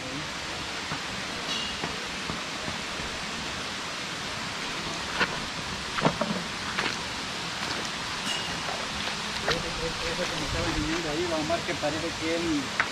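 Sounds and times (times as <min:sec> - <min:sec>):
flowing water rushing: 0:00.0 - 0:12.9.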